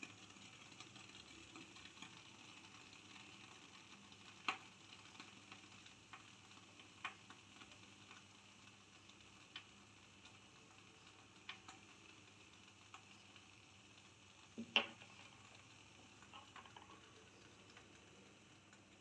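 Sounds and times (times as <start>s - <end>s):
pressure cooker sizzling hiss: 0.0s - 19.0s.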